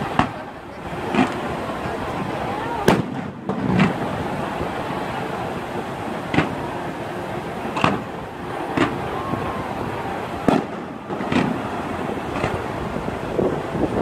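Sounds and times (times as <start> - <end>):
fireworks bangs: 0.0 - 14.0
steady background noise: 0.0 - 14.0.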